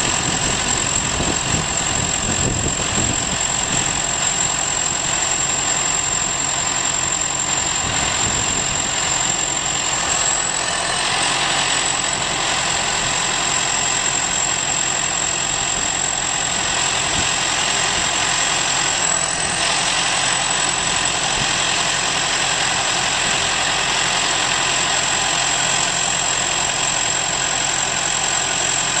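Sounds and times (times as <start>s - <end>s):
farm machinery engine running: 0.0s - 29.0s
high whine: 0.0s - 29.0s.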